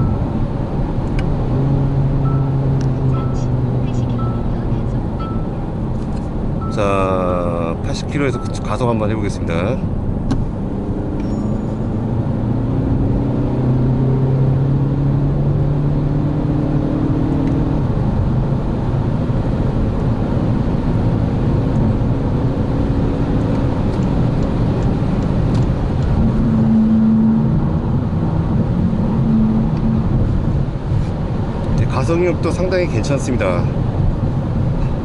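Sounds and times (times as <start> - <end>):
diesel engine accelerating: 0.0 - 35.0
road and tyre noise: 0.0 - 35.0.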